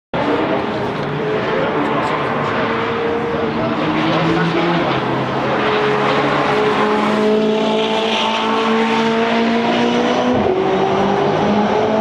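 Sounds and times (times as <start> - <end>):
car engine at high revs: 0.2 - 12.0.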